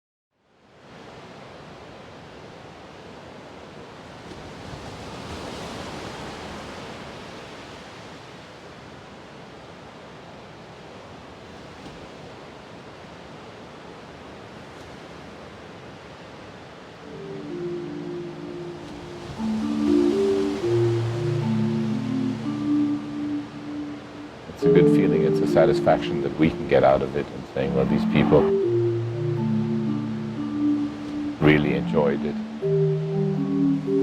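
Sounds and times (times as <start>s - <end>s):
sea waves rushing: 0.8s - 34.0s.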